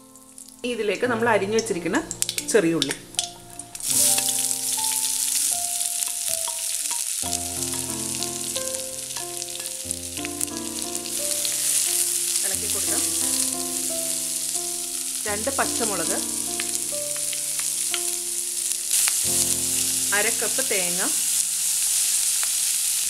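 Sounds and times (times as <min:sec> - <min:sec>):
shallots sizzling in oil: 0:00.0 - 0:23.0.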